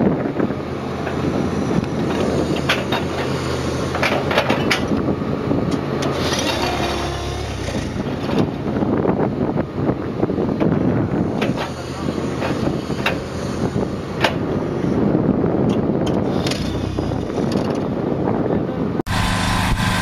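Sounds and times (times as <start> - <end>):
plate compactor humming: 0.0 - 17.9, 19.1 - 20.0.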